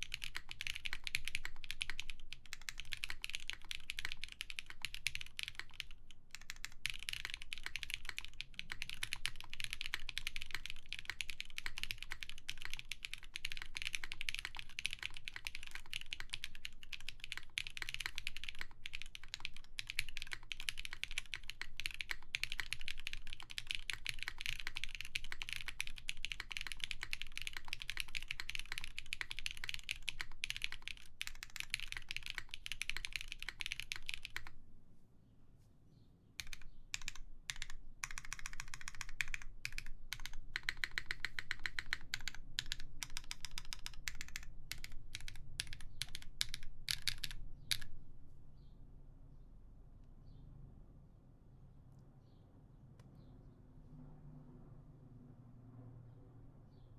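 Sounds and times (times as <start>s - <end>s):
fast typing on mechanical keyboard: 0.0s - 34.6s, 36.4s - 48.0s.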